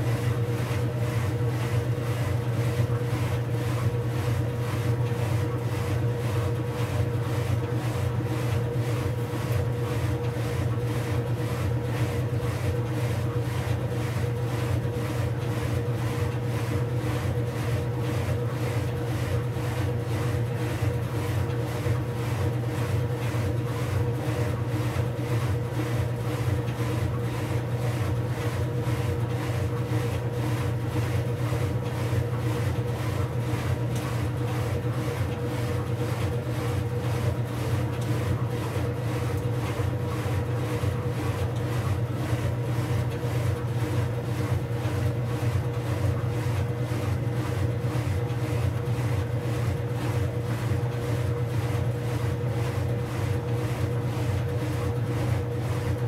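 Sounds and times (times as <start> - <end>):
washing machine spinning hum: 0.0 - 56.0.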